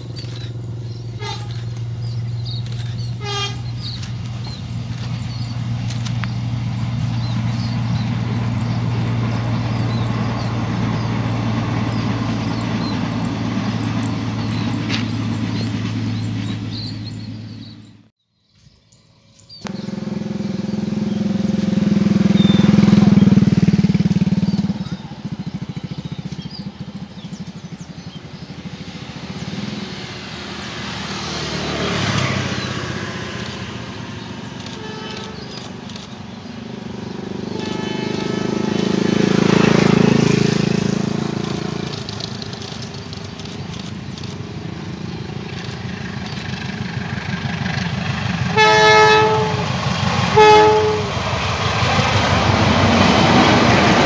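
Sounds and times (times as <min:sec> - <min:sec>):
distant train engine drone: 0:00.0 - 0:18.1, 0:18.9 - 0:54.0
birds chirping: 0:00.0 - 0:54.0.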